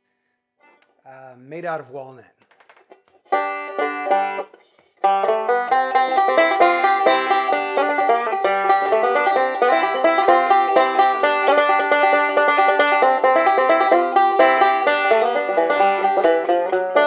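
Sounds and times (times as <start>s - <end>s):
banjo fingerpicked fast: 2.9s - 17.0s.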